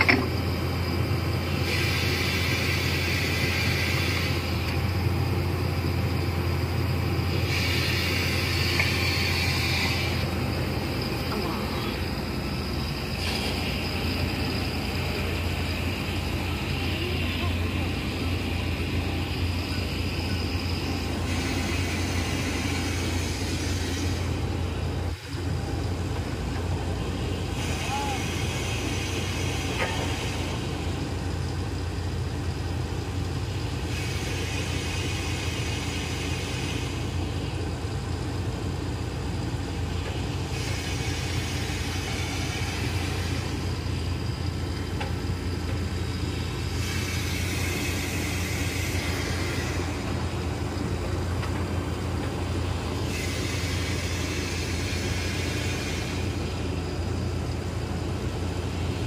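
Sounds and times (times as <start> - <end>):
arc welder hissing and crackling: 0.0 - 59.0
engine idling: 0.0 - 59.0.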